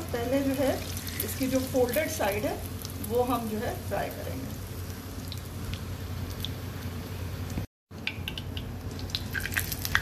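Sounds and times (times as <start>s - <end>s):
hot oil sizzling: 0.0s - 10.0s.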